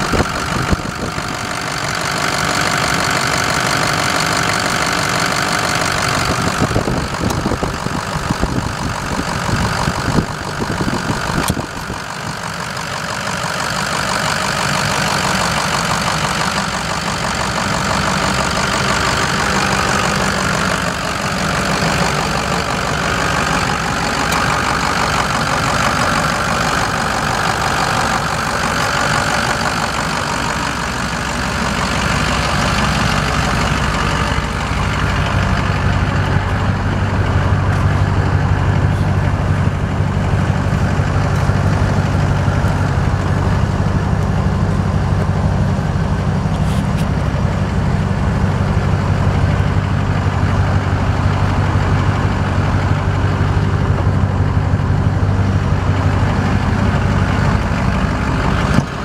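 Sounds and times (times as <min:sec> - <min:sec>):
deep drone: 0:00.0 - 0:59.0
truck engine idling: 0:00.0 - 0:59.0.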